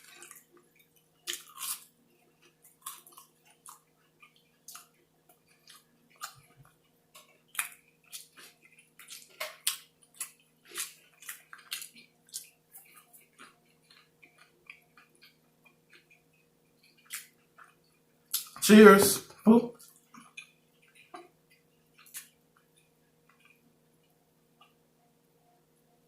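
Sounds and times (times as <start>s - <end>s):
person chewing food: 0.0s - 18.6s, 19.3s - 25.6s.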